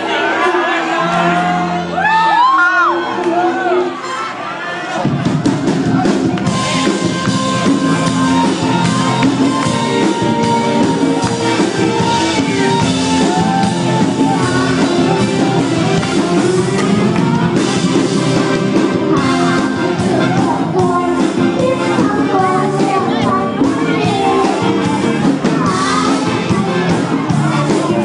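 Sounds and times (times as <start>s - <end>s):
live band playing loud music: 0.1s - 28.0s
drum kit: 4.9s - 28.0s.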